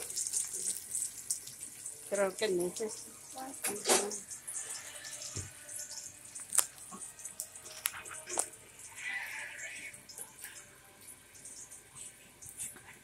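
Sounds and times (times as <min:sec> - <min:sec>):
onions frying in oil: 0:00.0 - 0:13.0.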